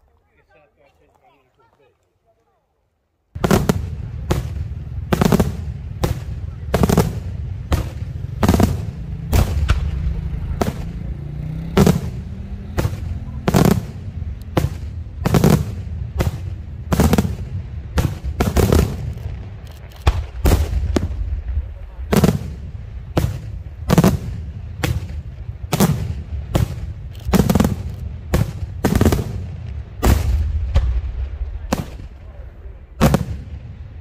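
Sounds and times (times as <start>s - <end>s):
fireworks bangs: 3.4s - 34.0s
low rumble: 3.8s - 34.0s.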